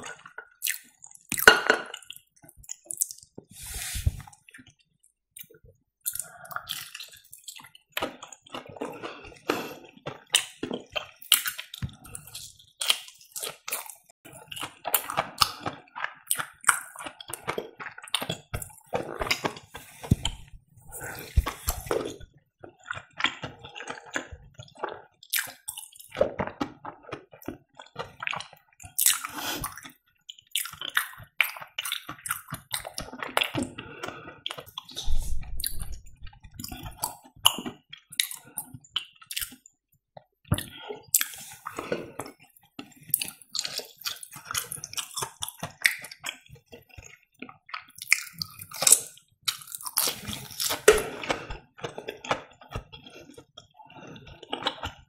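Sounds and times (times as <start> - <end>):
chewing crisp fried food: 0.0 - 3.5, 4.3 - 55.0.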